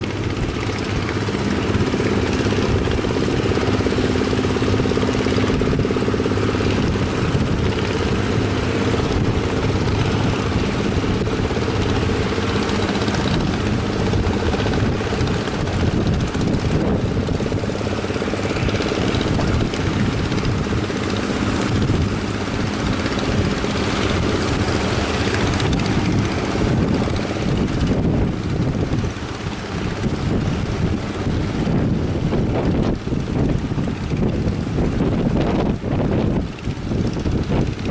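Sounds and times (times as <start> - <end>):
boat engine running: 0.0 - 37.9
surf: 0.0 - 37.9
wind: 0.0 - 37.9.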